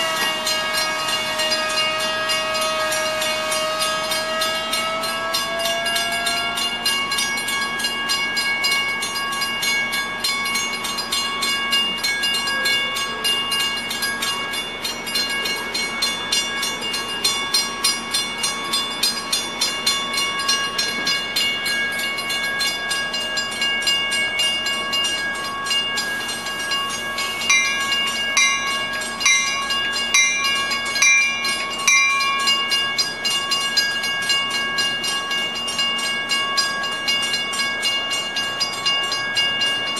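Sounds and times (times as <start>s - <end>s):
crossing warning bells ringing: 0.0s - 39.9s
train rolling through: 0.0s - 39.9s.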